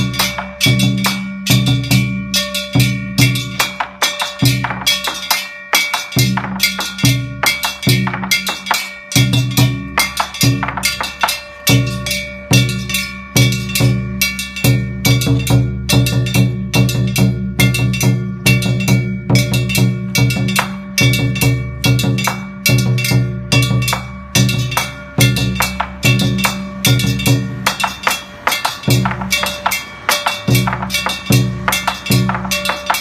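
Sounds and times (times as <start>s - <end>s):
metallic ringing tones: 0.0s - 33.0s.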